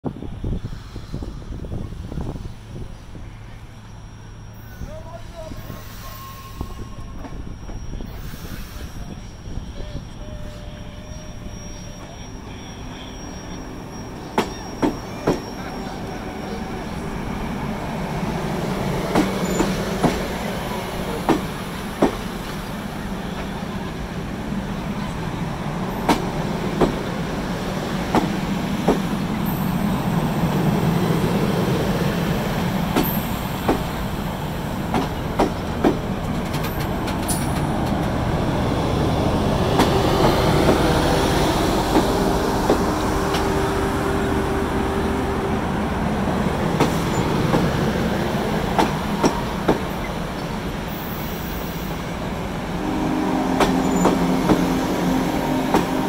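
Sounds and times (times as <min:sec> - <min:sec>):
train cars rumbling on rails: 0:00.0 - 0:56.0
wheels squealing: 0:03.8 - 0:25.2, 0:25.9 - 0:52.4.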